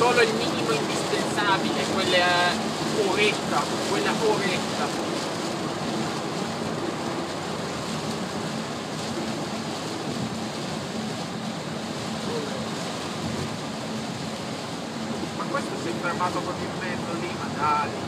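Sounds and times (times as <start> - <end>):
low engine hum: 0.0 - 18.0
rain on car: 0.0 - 18.0
wet tyres hissing: 0.0 - 18.0.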